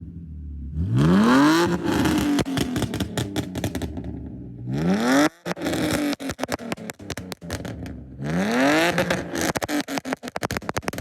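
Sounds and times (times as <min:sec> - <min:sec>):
car engine revving: 0:00.0 - 0:11.0
exhaust pops and crackles: 0:01.4 - 0:11.0.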